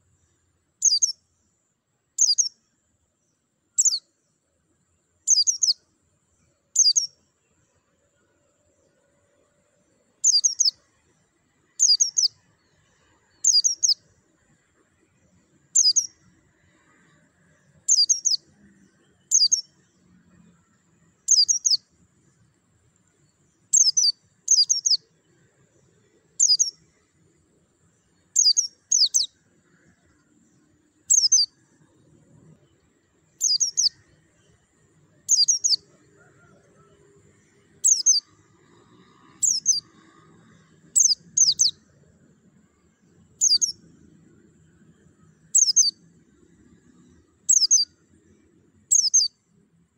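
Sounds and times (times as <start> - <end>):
bird chirping: 0.0 - 1.3, 2.2 - 4.2, 5.2 - 7.9, 9.8 - 11.1, 11.7 - 49.4.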